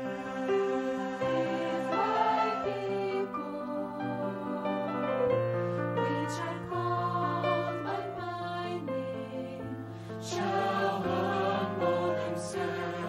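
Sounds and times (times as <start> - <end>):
mixed choir singing a hymn: 0.0 - 13.0.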